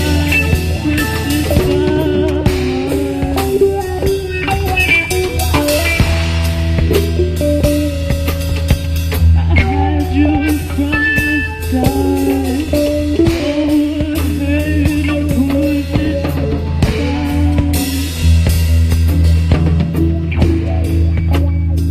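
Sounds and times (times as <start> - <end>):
drum kit beat: 0.0 - 21.9
guitar melody: 0.0 - 21.9.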